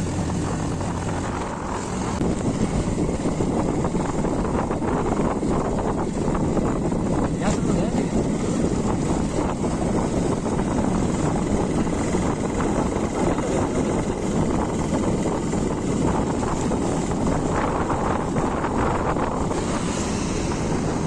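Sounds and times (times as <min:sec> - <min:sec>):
motorcycle engine running: 0:00.0 - 0:21.0
wind on microphone: 0:00.0 - 0:21.0.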